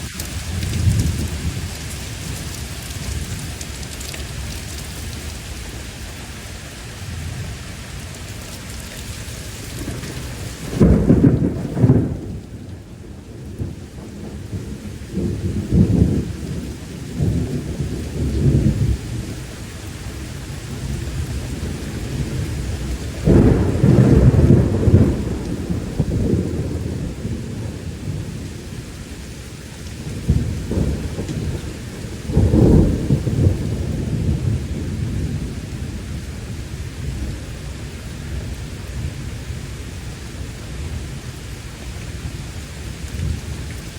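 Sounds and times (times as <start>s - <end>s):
steady rain: 0.0s - 43.9s
thunder rumbling: 0.0s - 43.9s.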